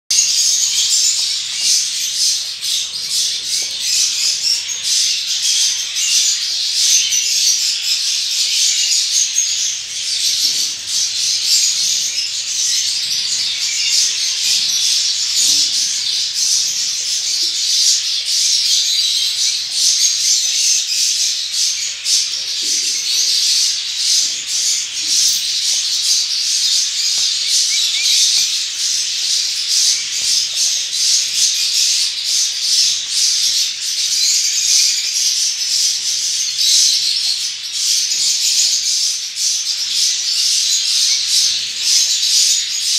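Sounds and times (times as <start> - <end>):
chicks peeping: 0.1 - 42.9.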